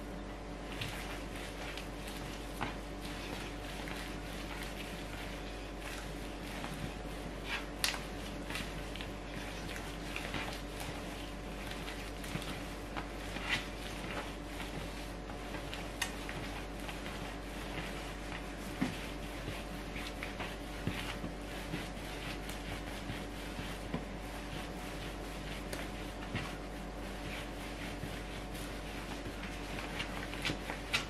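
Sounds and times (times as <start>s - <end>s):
dough kneaded by hand: 0.0s - 31.0s
steady low hum: 0.0s - 31.0s.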